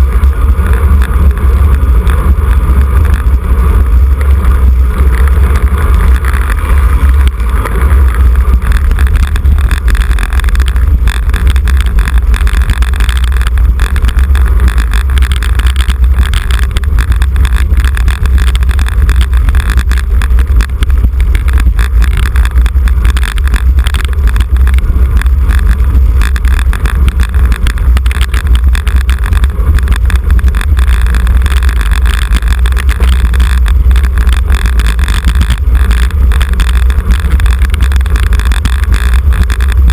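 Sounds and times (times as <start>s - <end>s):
heavy wind buffeting microphone: 0.0s - 39.9s.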